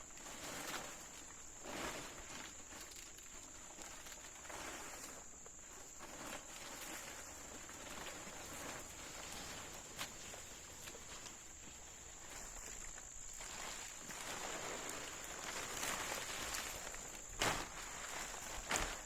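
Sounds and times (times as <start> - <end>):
soft scuffing and rustling: 0.2 - 19.0.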